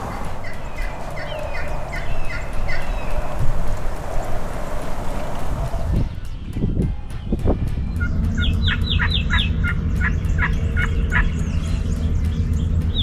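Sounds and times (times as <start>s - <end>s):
bird calling sharp notes: 0.0s - 13.0s
steady low rumble: 0.0s - 13.0s.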